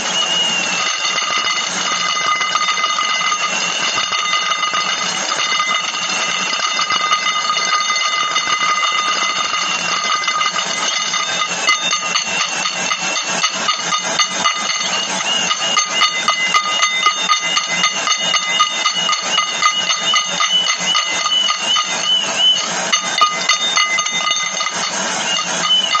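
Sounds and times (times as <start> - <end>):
steady high ringing tones: 0.0 - 26.0
dense rapid clicking: 0.4 - 26.0.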